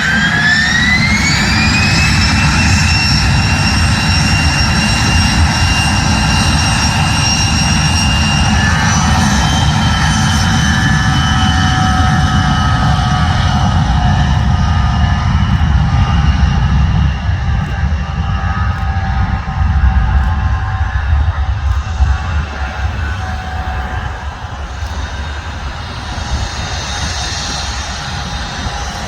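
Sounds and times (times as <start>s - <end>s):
jet engine whine and rumble: 0.0s - 29.0s.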